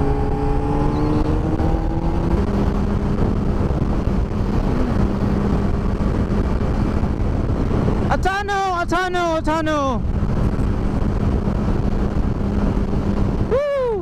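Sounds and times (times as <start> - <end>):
motorcycle engine cruising: 0.0 - 8.1, 10.0 - 13.8
wind rush: 0.0 - 14.0.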